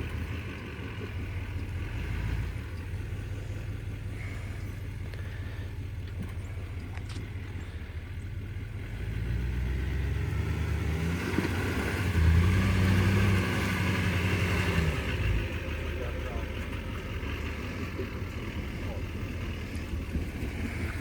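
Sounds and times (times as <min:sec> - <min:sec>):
truck engine revving under load: 0:00.0 - 0:21.0.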